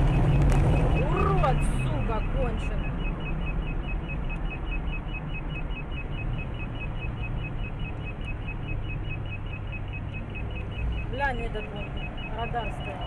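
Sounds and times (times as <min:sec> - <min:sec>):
car cabin road noise: 0:00.0 - 0:13.0
rapid two-tone beeping: 0:00.0 - 0:13.0.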